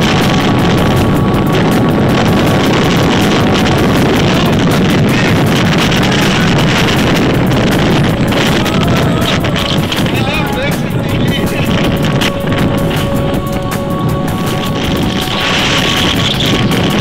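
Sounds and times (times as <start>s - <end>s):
rough sea rushing: 0.0s - 17.0s
wind buffeting microphone: 0.0s - 17.0s.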